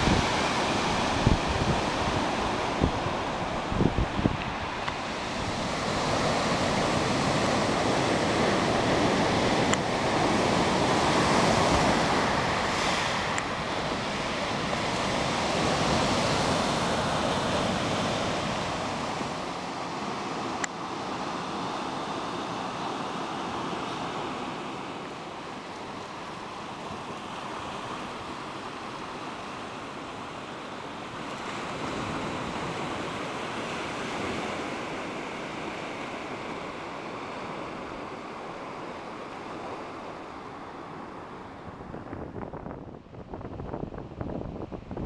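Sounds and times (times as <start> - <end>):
sea surf breaking: 0.0 - 42.4.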